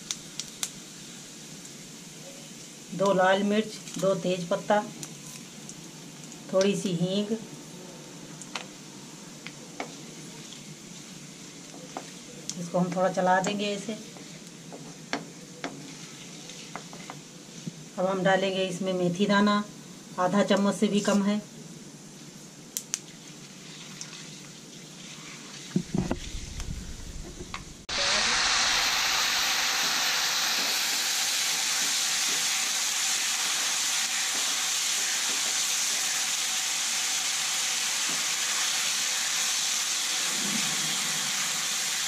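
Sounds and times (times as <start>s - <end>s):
onion sizzling in hot oil: 0.0s - 42.0s.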